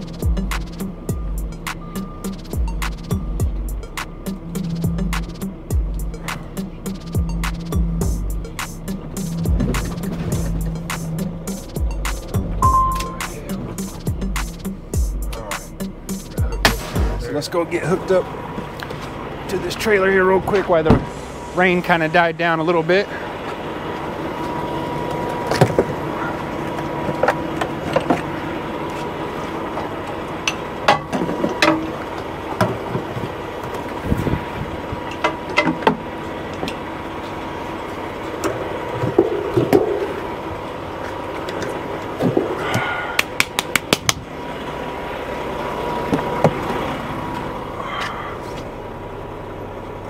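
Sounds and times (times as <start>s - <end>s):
truck engine idling: 0.0s - 50.0s.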